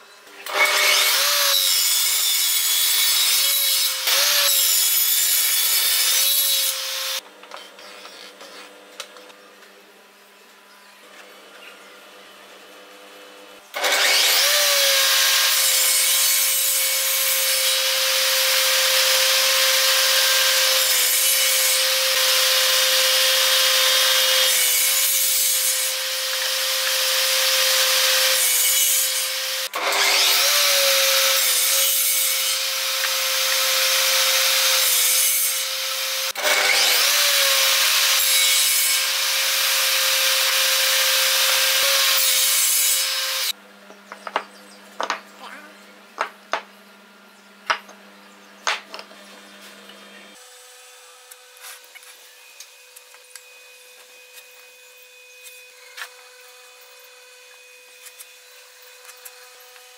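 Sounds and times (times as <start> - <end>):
table saw cutting wood: 0.4 - 8.8, 13.6 - 43.6, 48.6 - 59.9.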